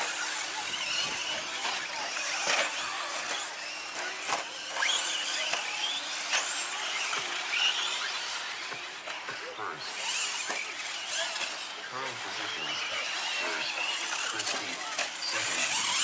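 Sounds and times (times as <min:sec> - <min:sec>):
rc truck electric motors whining: 0:00.0 - 0:16.0.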